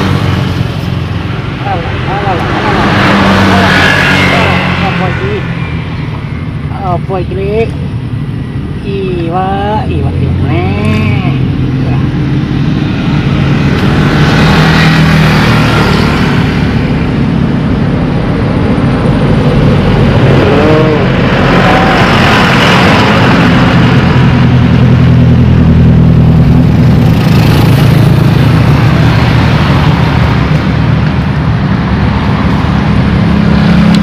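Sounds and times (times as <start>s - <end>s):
road traffic engine drone: 0.0s - 34.0s
vehicles passing: 0.0s - 34.0s.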